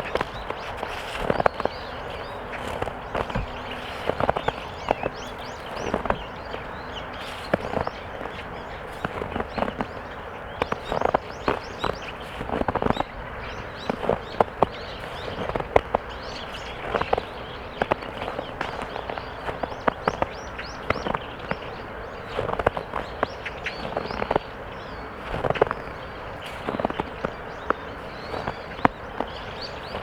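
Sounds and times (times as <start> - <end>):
footsteps crunching in snow: 0.0 - 30.0.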